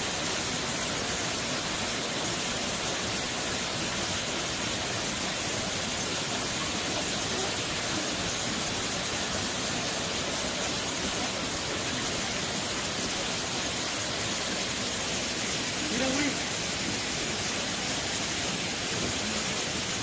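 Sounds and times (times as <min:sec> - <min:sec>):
waterfall rushing into pool: 0:00.0 - 0:20.0.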